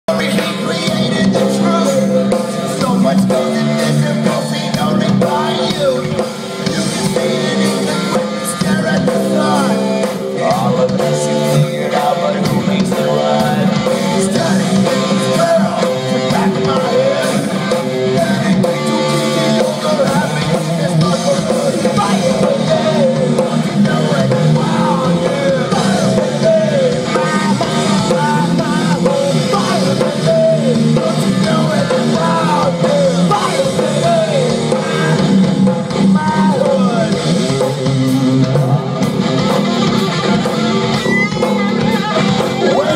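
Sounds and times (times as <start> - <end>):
drum kit: 0.1 - 42.9
electric guitar: 0.1 - 42.9
person singing: 0.1 - 42.9.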